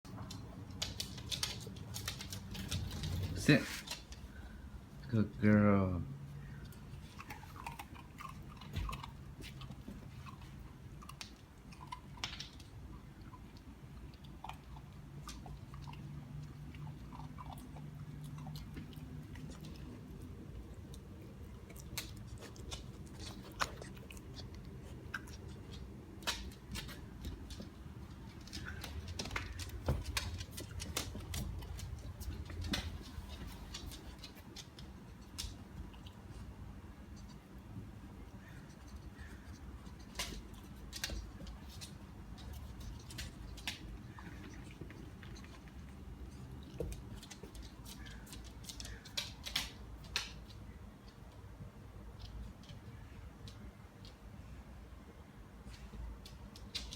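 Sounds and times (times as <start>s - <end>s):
puppy chewing: 0.1s - 4.6s, 6.4s - 54.3s.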